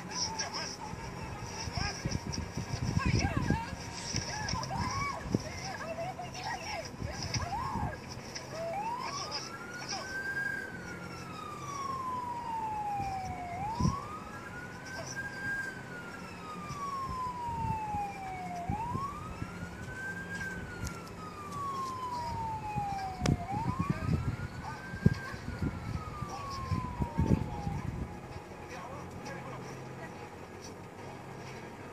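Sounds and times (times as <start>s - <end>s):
emergency vehicle siren wailing: 0.0s - 31.9s.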